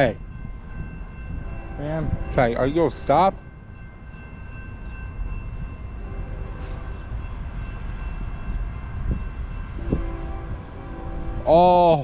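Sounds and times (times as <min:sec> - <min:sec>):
freight train rumbling by: 0:00.0 - 0:12.0.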